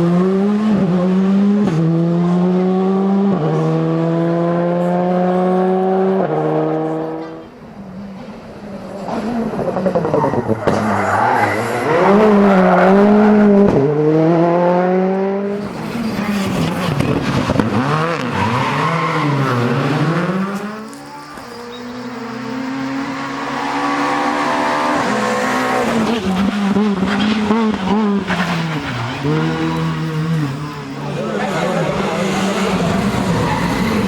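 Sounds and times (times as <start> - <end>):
rally car engines running hard: 0.0 - 34.0.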